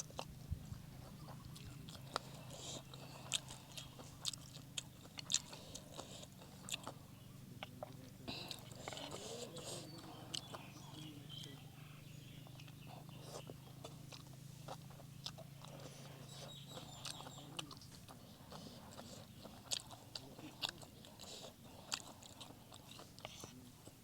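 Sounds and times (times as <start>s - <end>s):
low steady hum: 0.0s - 24.0s
person chewing noodles: 0.0s - 24.0s.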